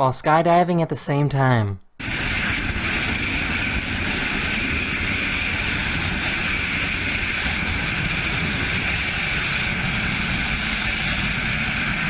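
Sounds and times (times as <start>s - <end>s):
loud wind rushing: 2.0s - 12.0s.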